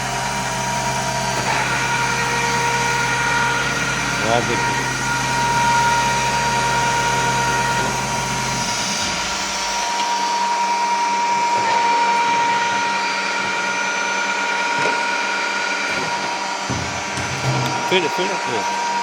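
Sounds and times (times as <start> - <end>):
milling machine spindle whine: 0.0 - 19.0.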